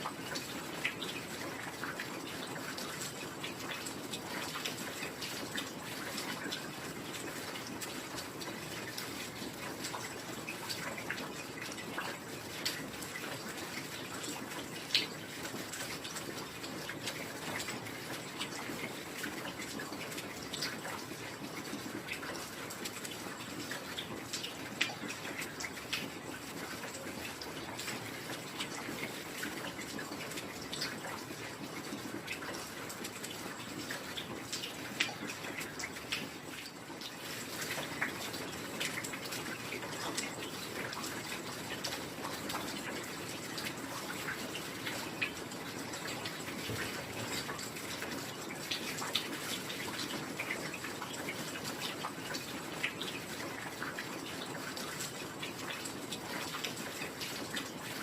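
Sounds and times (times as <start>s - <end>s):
water drips and drop impacts: 0.0s - 58.0s.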